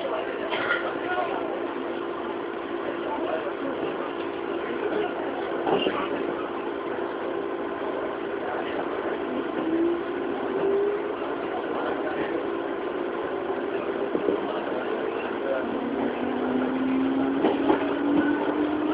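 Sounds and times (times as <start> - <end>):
electric train running rumble: 0.0 - 18.9.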